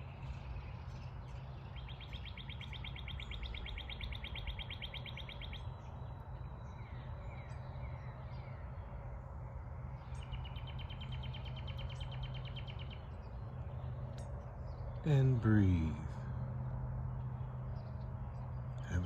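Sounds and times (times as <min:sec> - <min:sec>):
songbird trilling: 0:00.0 - 0:08.9, 0:09.8 - 0:16.4
faint bird chirps: 0:00.0 - 0:19.0
steady low rumble: 0:00.0 - 0:19.0.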